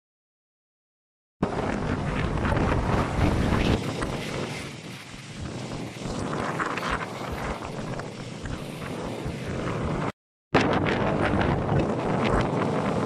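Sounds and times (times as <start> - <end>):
water slapping against boats: 1.4 - 13.0
wind buffeting microphone: 1.4 - 13.0.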